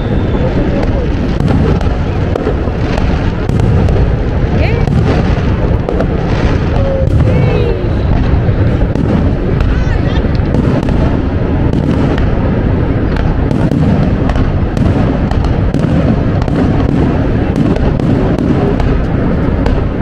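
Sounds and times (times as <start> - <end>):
fireworks bursting: 0.0 - 20.0
sharp cracks: 0.8 - 20.0.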